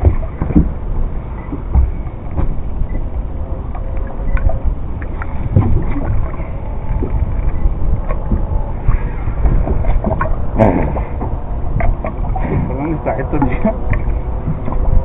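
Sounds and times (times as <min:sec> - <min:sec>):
water around a boat: 0:00.0 - 0:15.0
wind rumbling on microphone: 0:00.0 - 0:15.0.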